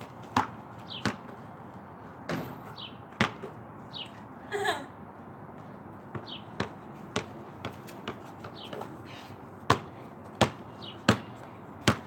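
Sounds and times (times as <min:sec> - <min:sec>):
basketball bouncing on pavement: 0:00.0 - 0:03.9, 0:05.5 - 0:12.0.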